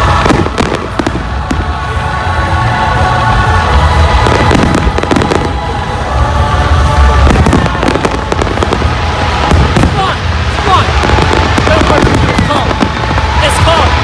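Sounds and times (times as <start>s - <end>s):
deep rumble: 0.0s - 14.0s
fireworks crackling and banging: 0.0s - 14.0s
music playing: 0.0s - 14.0s.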